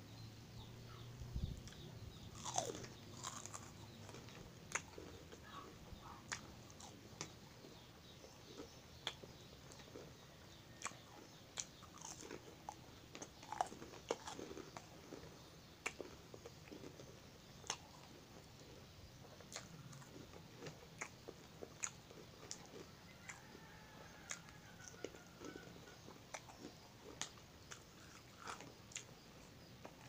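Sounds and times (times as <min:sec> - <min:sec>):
crisp crackers being chewed: 0:01.6 - 0:30.0.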